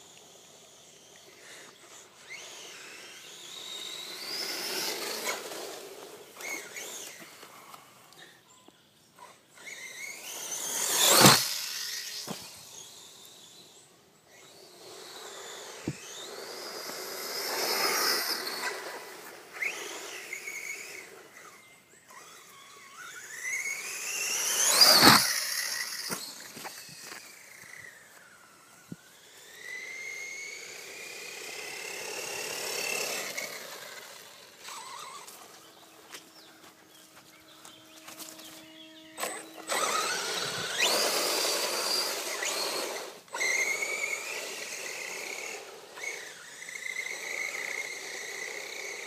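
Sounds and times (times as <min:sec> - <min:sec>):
electric motor whining: 0:00.0 - 0:08.5, 0:09.2 - 0:49.0.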